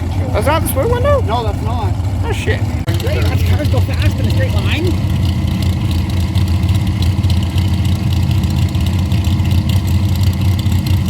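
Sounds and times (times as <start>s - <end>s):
race car engine idling: 0.0s - 11.0s.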